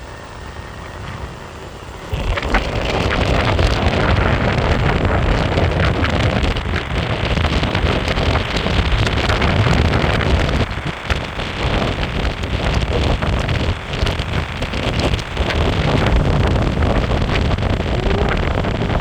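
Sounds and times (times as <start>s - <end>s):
skateboard wheels rumbling on pavement: 0.0s - 19.0s
wind rushing over microphone: 0.0s - 19.0s.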